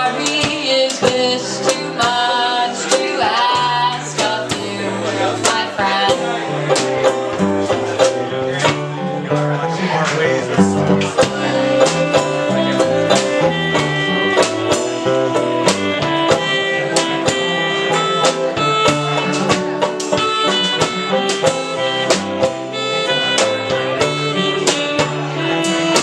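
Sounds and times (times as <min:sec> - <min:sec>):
drum kit beat: 0:00.0 - 0:26.0
guitar playing: 0:00.0 - 0:26.0.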